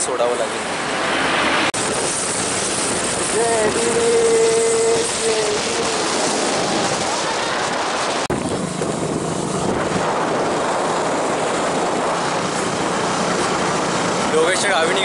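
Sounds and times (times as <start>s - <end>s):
road noise: 0.0s - 15.0s
wind buffeting microphone: 0.6s - 15.0s.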